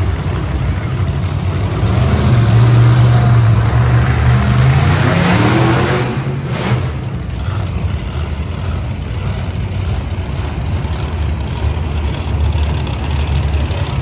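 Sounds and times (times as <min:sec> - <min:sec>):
big engine idling: 0:00.0 - 0:05.3, 0:06.2 - 0:14.0.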